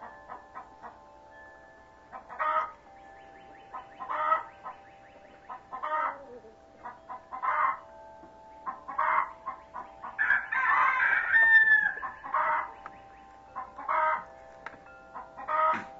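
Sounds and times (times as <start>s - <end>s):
chickens clucking and cackling: 0.0s - 1.3s, 2.0s - 15.9s.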